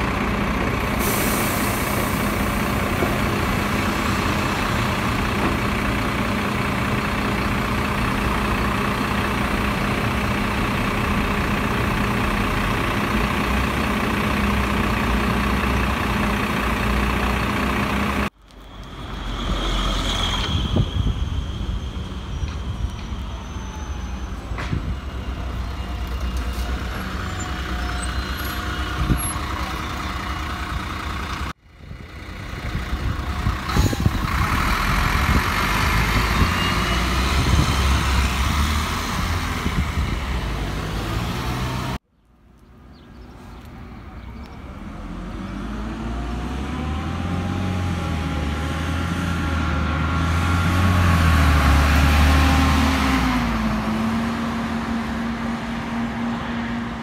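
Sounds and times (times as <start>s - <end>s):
bus accelerating past: 0.0s - 42.0s, 42.9s - 57.0s
bus pulling away: 0.0s - 42.0s, 42.7s - 57.0s.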